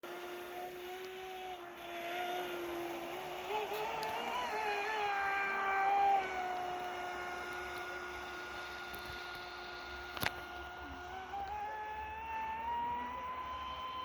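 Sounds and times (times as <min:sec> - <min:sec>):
model boat motor whining: 0:00.0 - 0:14.0.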